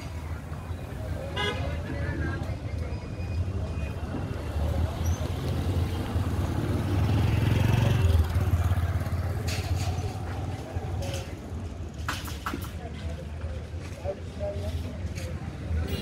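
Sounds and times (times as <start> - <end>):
passing cars and motorcycles: 0.0 - 12.8.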